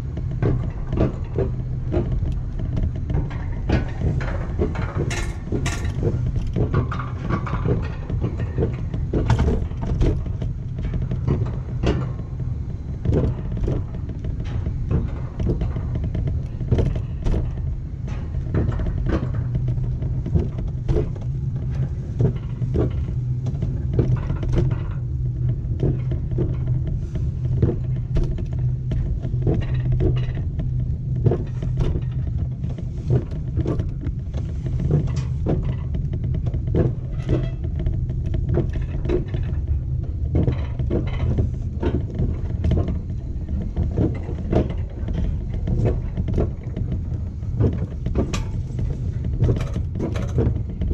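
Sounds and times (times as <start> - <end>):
clicks and knocks on track: 0.0 - 50.9
coaster sled wheels rumbling: 0.0 - 50.9.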